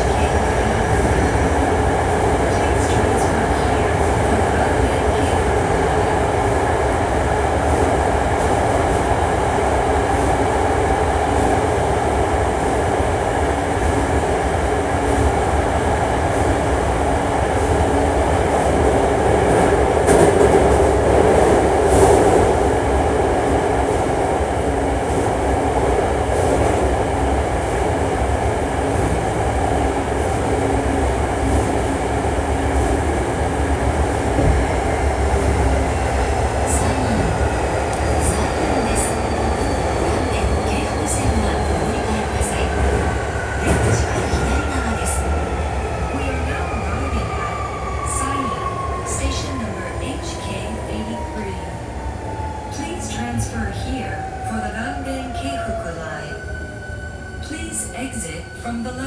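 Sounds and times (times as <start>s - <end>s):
train rumble and whine: 0.0s - 59.0s.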